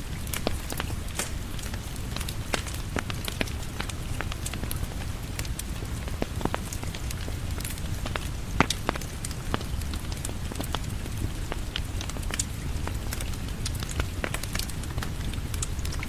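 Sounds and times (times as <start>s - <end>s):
rain on a porch: 0.0s - 16.0s
wood fire crackling and popping: 0.0s - 16.0s.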